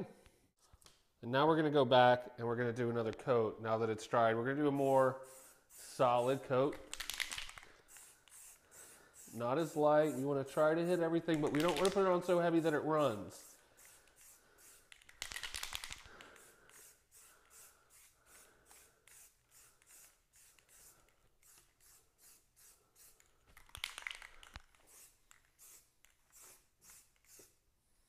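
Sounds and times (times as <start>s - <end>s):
spray can hissing bursts: 4.7s - 27.6s.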